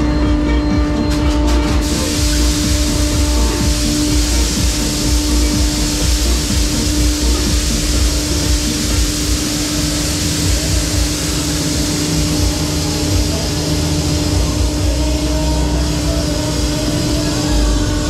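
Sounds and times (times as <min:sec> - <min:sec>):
faint fairground music: 0:00.0 - 0:18.0
fairground ride rushing and rumble: 0:00.0 - 0:18.0
steady hum: 0:00.0 - 0:18.0.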